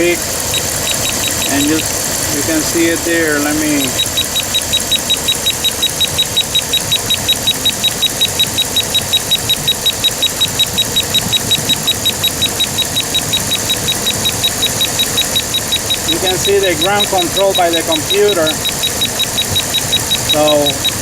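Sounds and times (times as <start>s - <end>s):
engine idling: 0.0s - 21.0s
sharp engine ticking: 0.0s - 21.0s.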